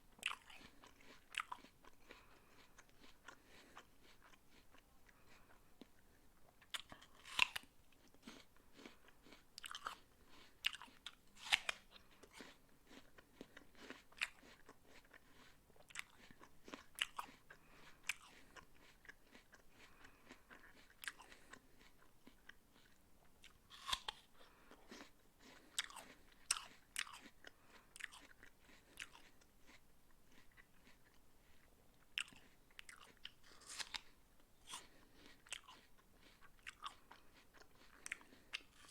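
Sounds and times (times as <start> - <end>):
person chewing crisp apple: 0.1 - 38.9.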